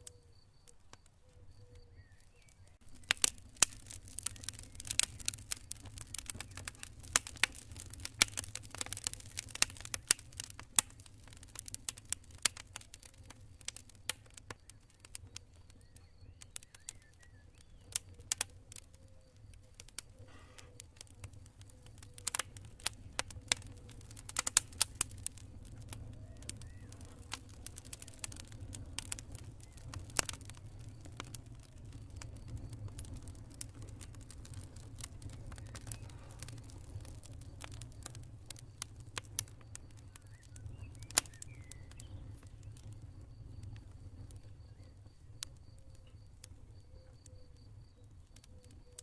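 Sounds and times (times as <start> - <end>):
faint cricket chirp: 0.0 - 9.0, 9.6 - 49.0
campfire crackling and popping: 0.0 - 49.0
low rumble of burning: 0.0 - 49.0.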